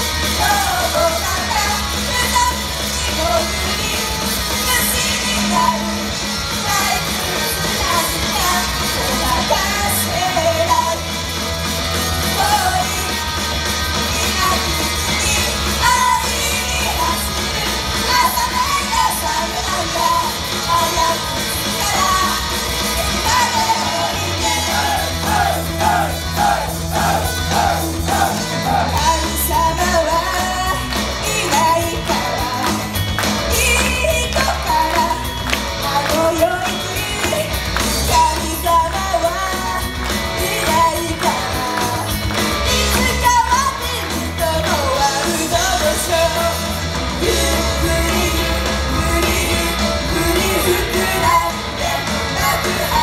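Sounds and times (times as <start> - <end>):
live rock song with vocals: 0.0 - 53.0.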